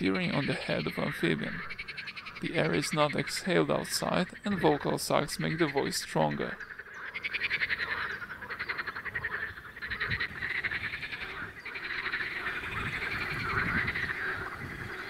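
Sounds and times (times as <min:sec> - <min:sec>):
chorus of frogs croaking: 0:00.0 - 0:15.0.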